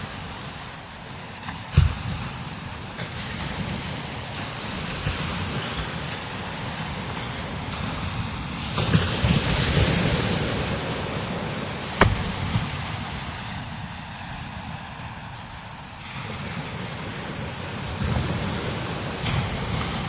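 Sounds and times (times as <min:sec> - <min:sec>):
strong wind gusting: 0:00.0 - 0:20.0
wind buffeting microphone: 0:00.0 - 0:20.0.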